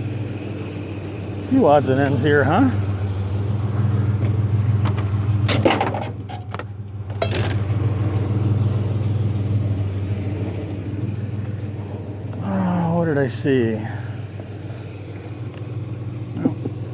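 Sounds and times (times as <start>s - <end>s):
truck engine idling: 0.0s - 16.9s.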